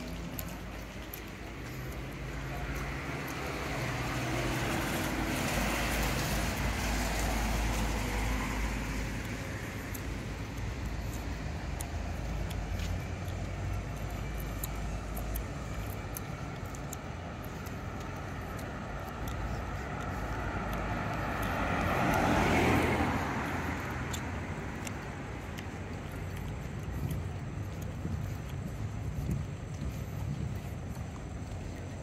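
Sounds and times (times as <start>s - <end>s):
vehicle passing by: 0.0s - 13.5s, 17.6s - 32.0s
town traffic rumble: 0.0s - 32.0s.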